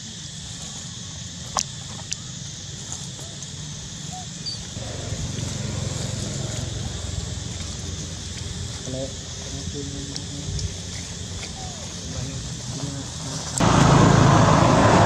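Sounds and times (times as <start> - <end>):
high insect buzz: 0.0 - 15.0
monkey walking over dry leaves: 0.1 - 14.0.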